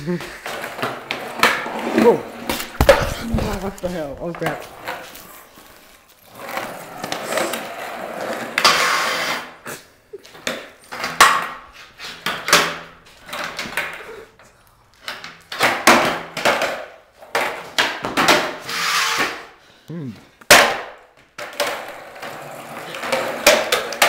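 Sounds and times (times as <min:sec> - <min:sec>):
skateboard wheels rolling on concrete: 0:00.0 - 0:19.6, 0:20.5 - 0:24.0
skateboard clacking and scraping: 0:00.2 - 0:09.6, 0:10.3 - 0:14.4, 0:15.0 - 0:19.6, 0:20.5 - 0:24.0.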